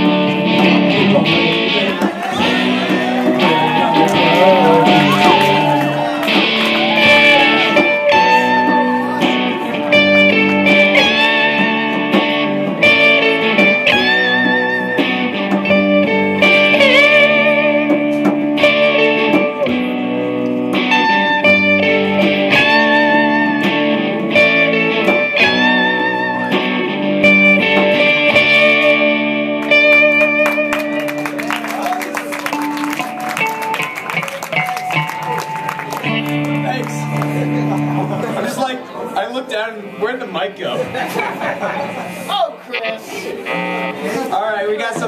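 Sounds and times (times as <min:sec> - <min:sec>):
live guitar band music: 0:00.0 - 0:45.0.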